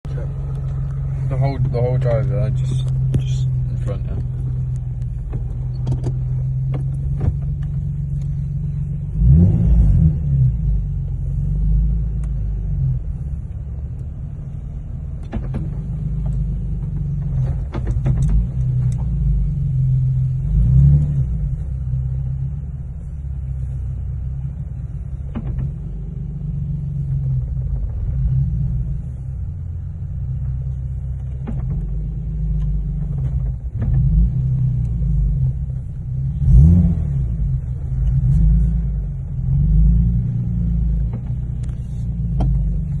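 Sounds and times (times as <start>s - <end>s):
car engine rumble: 0.0s - 43.0s.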